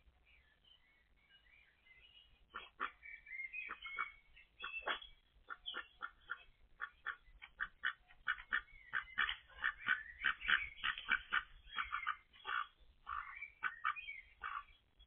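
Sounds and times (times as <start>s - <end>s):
ducks quacking: 2.5s - 14.8s.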